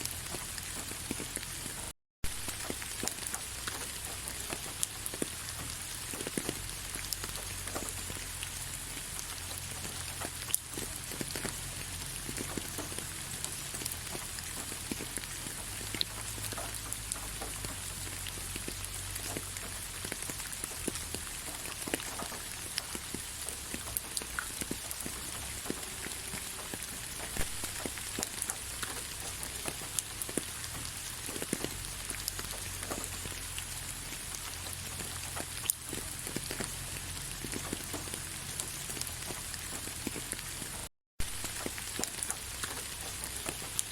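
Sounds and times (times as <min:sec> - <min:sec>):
raindrops clicking on surfaces: 0:00.0 - 0:43.9
steady rain hiss: 0:00.0 - 0:43.9.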